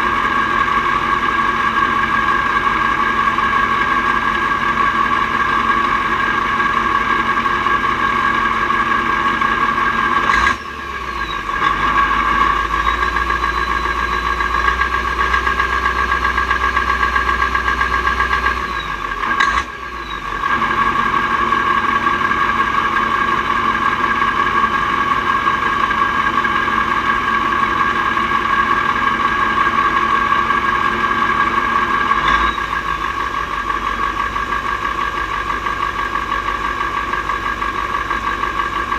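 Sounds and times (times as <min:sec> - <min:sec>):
diesel truck engine driving: 0:00.0 - 0:38.9.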